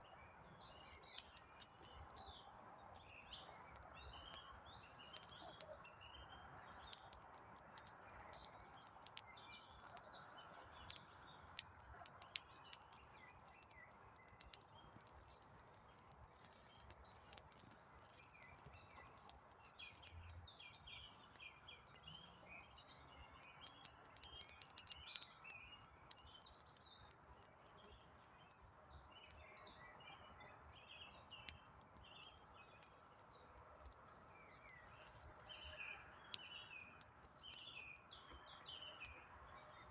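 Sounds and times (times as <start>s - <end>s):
campfire crackling and popping: 0.0s - 29.6s, 30.5s - 39.5s
faint birds chirping: 0.0s - 39.9s.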